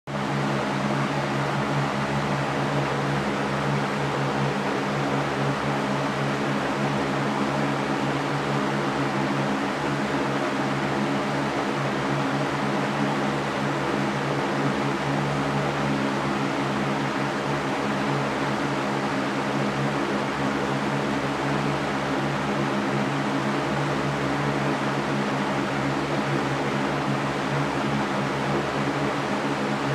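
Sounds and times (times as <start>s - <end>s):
electric fan running: 0.1s - 29.9s.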